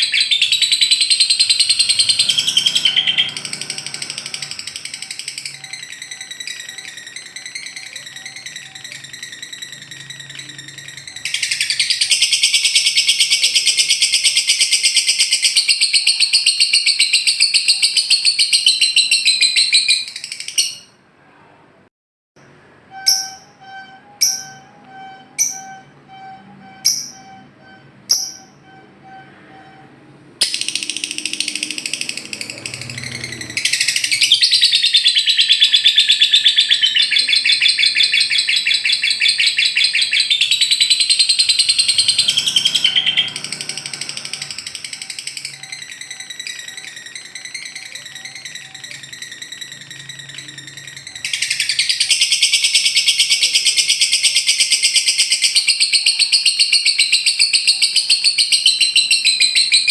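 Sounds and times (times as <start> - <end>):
lovebird chattering trill: 0.0 - 20.9, 22.9 - 29.2, 30.4 - 59.9.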